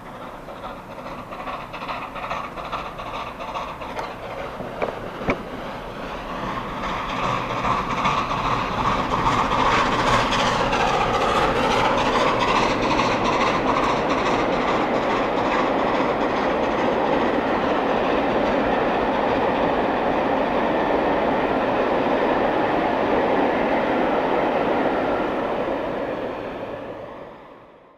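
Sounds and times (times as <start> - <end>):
coaches rolling on rails: 0.0 - 27.6
steam locomotive passing: 0.0 - 27.9.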